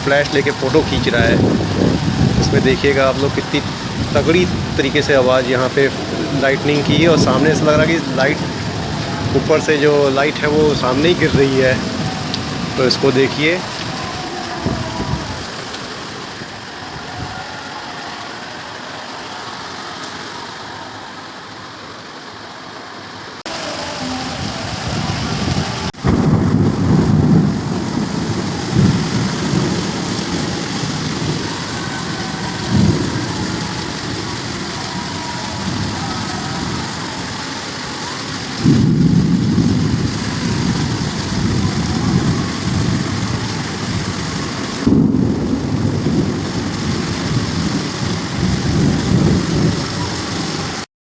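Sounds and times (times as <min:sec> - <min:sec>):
thunder claps: 0:00.0 - 0:17.5, 0:23.5 - 0:50.9
thunder rumbling: 0:00.0 - 0:18.1, 0:23.5 - 0:50.9
heavy rain hissing: 0:00.0 - 0:50.9.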